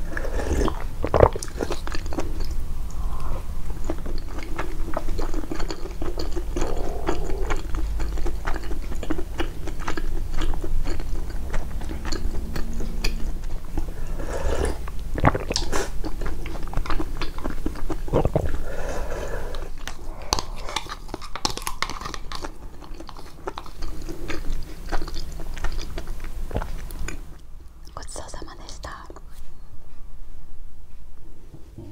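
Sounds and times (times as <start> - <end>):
chewing and crunching food: 0.0 - 29.3.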